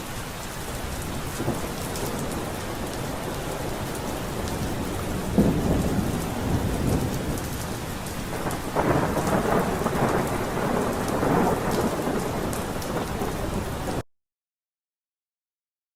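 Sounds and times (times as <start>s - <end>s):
steady rain: 0.0s - 14.0s
rolling thunder: 0.8s - 14.0s.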